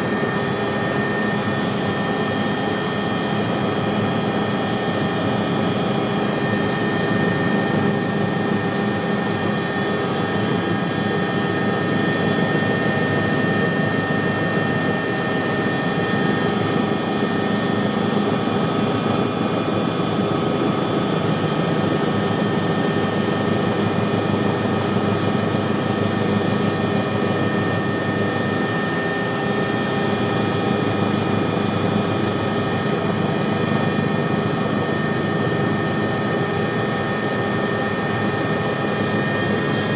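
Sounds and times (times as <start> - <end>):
helicopter rotor and engine: 0.0 - 39.9
high turbine whine: 0.0 - 39.9.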